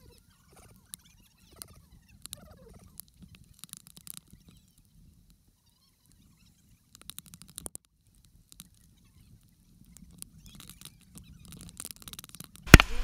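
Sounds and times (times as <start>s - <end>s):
faint clicks and light taps: 0.5s - 5.5s, 6.1s - 12.9s.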